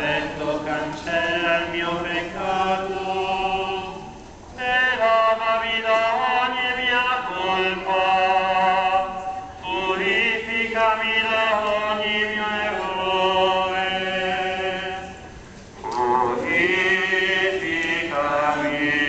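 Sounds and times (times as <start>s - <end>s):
voices singing slow chant: 0.0s - 19.0s.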